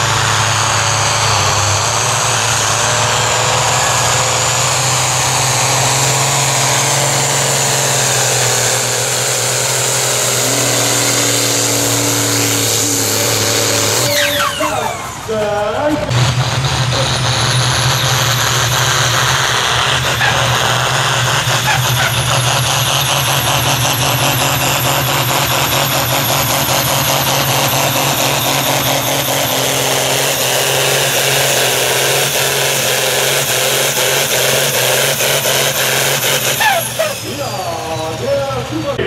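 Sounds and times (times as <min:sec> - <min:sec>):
tractor diesel engine under full load: 0:00.0 - 0:39.0.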